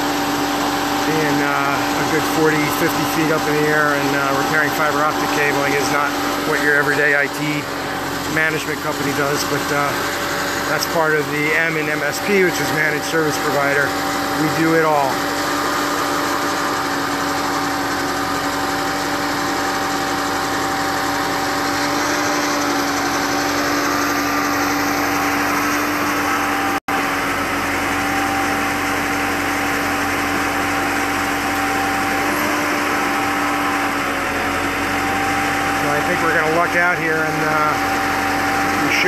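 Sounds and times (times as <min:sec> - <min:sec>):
boom lift engine droning: 0:00.0 - 0:39.0.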